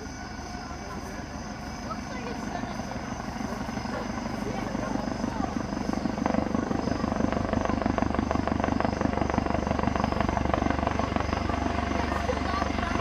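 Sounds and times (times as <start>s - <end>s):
helicopter rotor beating: 0.0s - 13.0s.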